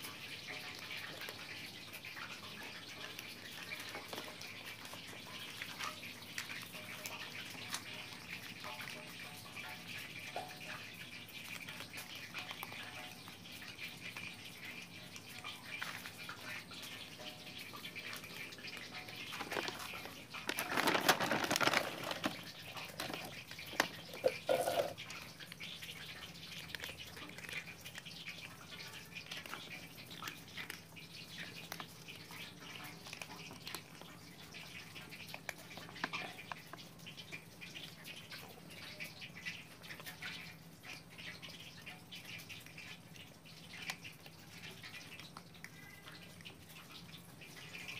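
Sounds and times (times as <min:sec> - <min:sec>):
cats crunching food: 0:00.0 - 0:38.8, 0:39.4 - 0:41.0.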